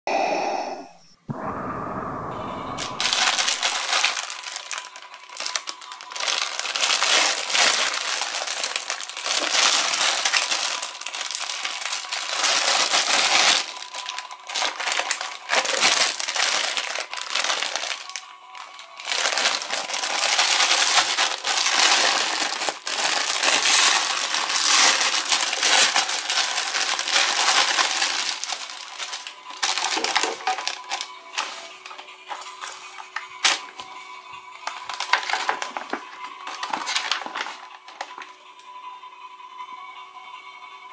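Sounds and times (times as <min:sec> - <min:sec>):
plastic wrapper crinkling: 0:02.5 - 0:38.4.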